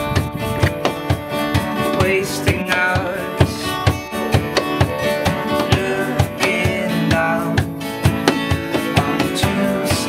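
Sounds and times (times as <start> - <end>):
acoustic guitar: 0.0 - 10.0
steady percussion beat: 0.0 - 10.0
man singing: 1.6 - 10.0.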